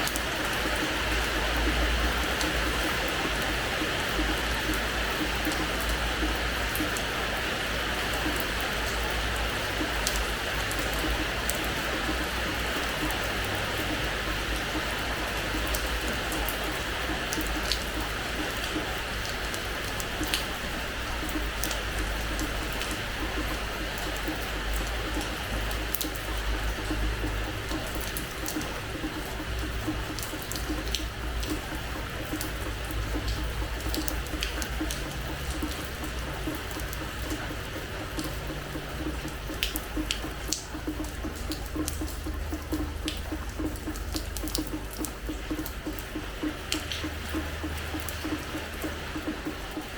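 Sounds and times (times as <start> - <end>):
rain falling on floor: 0.0 - 49.9.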